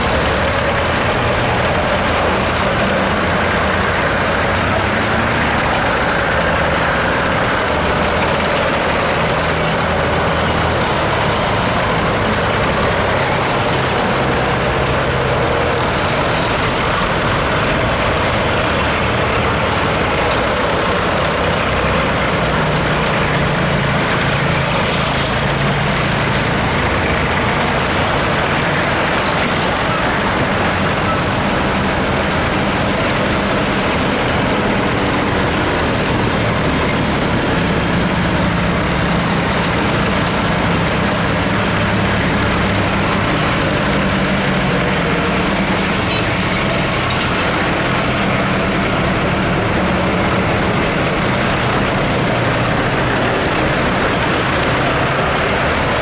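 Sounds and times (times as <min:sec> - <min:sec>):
tractor engines droning: 0:00.0 - 0:56.0.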